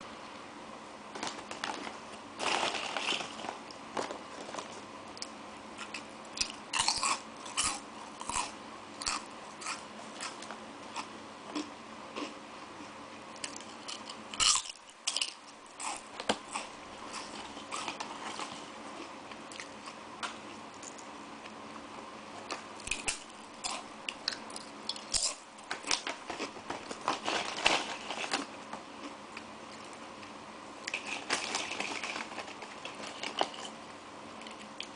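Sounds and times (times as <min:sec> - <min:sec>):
crunchy snacks being chewed: 0:01.2 - 0:12.4, 0:13.4 - 0:21.1, 0:22.4 - 0:30.0, 0:30.8 - 0:33.8.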